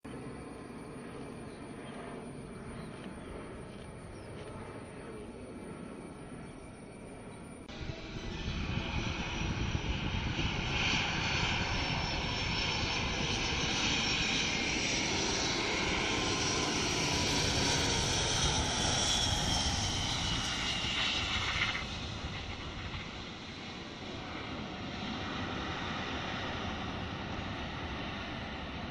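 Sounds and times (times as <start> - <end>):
airliner engine rush: 0.1 - 28.9.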